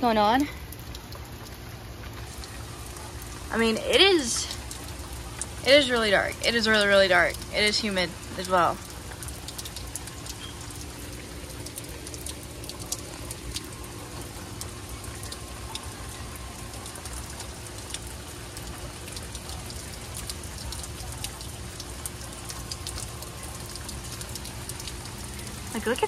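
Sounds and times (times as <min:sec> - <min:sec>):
raindrop ticks and splashes: 0:00.0 - 0:26.0
steady rain hissing: 0:00.0 - 0:26.0.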